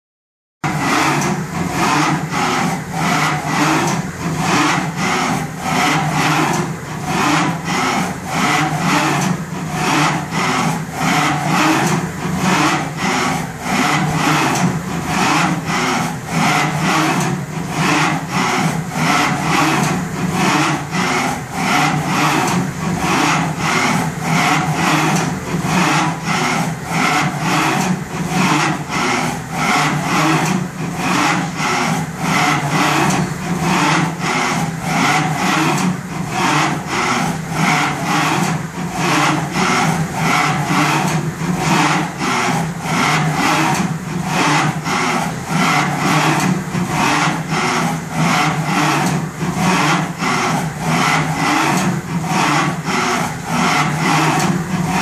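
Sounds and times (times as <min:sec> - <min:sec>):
milling machine humming and pulsing: 0:00.6 - 0:55.0.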